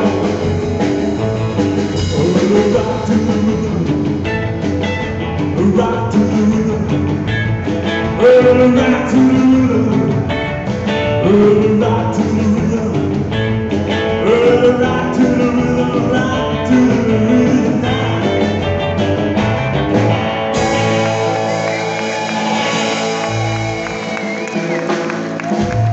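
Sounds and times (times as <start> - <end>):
rockabilly band playing: 0.0 - 25.9.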